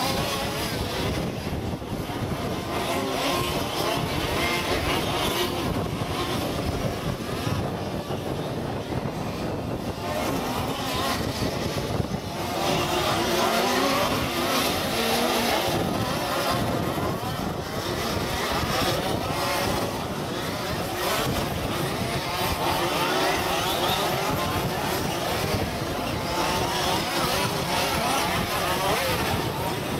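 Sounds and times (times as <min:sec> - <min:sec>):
rc car engines revving: 0:00.0 - 0:29.9.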